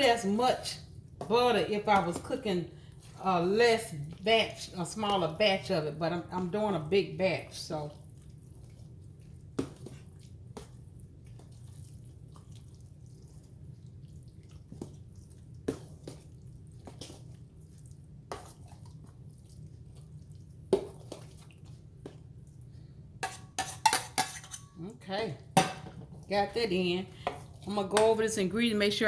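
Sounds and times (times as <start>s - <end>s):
spoon squelching in wet mix: 0.0s - 29.0s.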